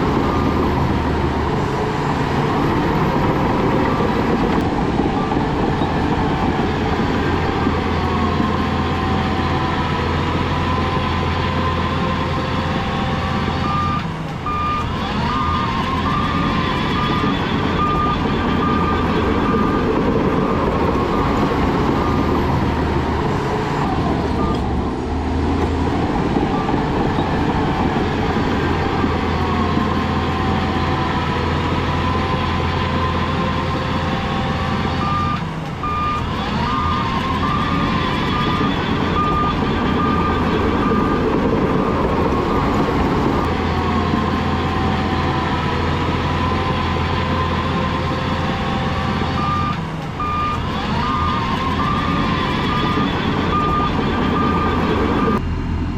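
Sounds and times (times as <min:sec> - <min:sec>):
diesel machinery engine under load: 0:00.0 - 0:55.9
reversing alarm beeps: 0:02.8 - 0:23.0, 0:23.8 - 0:24.9, 0:26.0 - 0:55.4.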